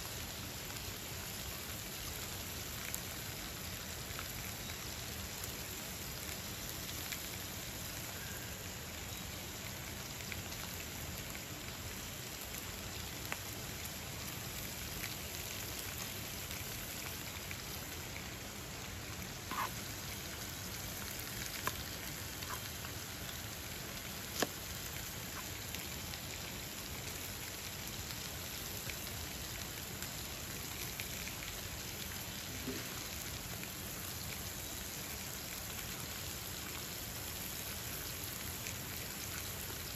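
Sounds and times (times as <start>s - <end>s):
meat frying in a pan: 0.0s - 39.9s
river flowing: 0.1s - 39.9s.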